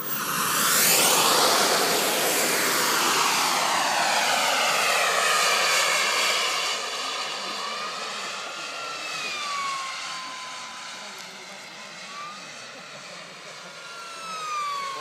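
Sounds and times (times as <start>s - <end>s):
model jet turbine whining: 0.0s - 15.0s.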